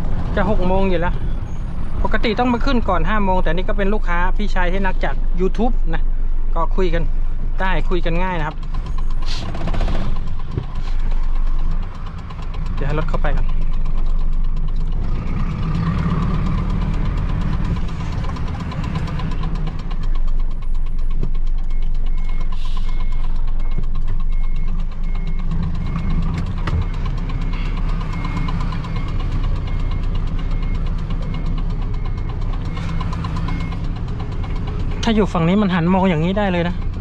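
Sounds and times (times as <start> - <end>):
truck diesel engine running: 0.0 - 37.0.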